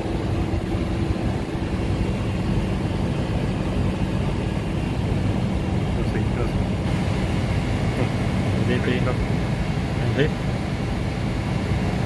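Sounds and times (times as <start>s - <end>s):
machinery hum and rumble: 0.0s - 12.0s.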